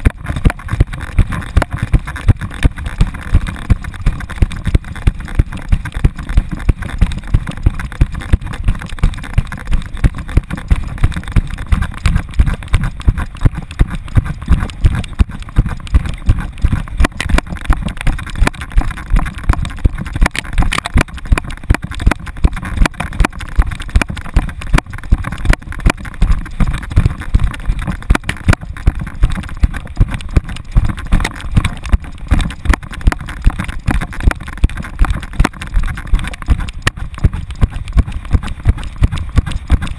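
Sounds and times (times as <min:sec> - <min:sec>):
constant rushing noise: 0:00.0 - 0:39.9.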